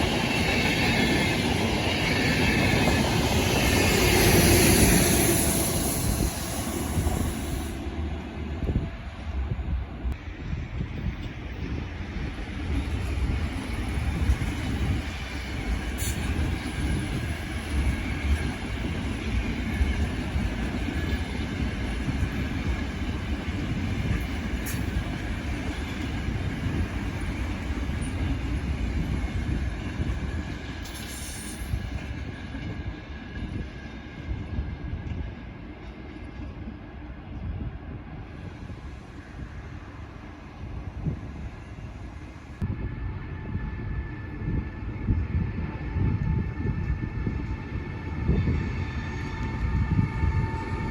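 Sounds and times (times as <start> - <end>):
train rumbling on rails: 0.0 - 50.9.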